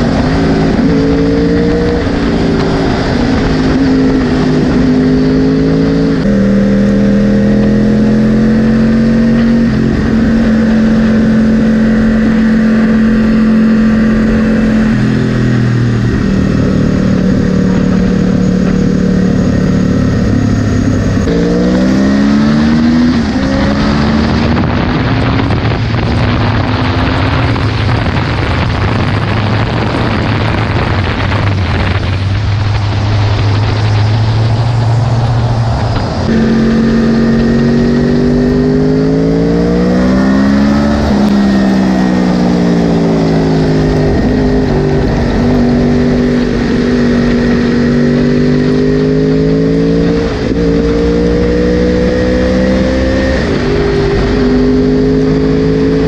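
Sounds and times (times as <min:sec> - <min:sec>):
motorcycle engine at full throttle: 0:00.0 - 0:56.0.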